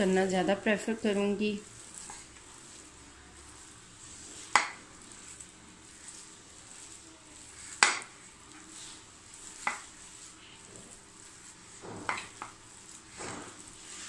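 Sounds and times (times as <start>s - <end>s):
hand squishing wet filling: 1.0s - 14.0s.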